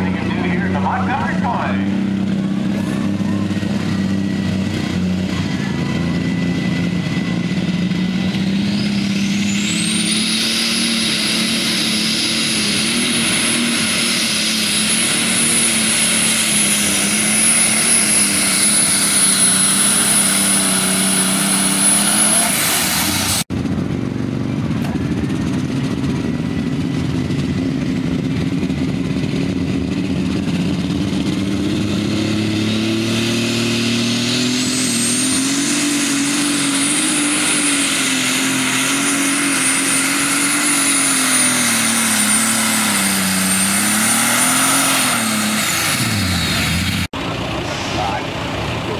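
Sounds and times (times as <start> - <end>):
tractor engine at full power: 0.0 - 48.9
turbocharger whine: 0.0 - 48.9.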